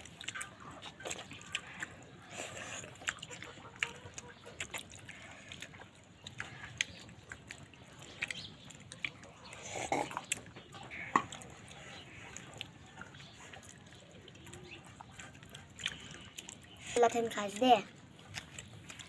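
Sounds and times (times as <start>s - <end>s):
person chewing and smacking: 0.0s - 19.0s
wet mouth clicks: 0.0s - 19.0s.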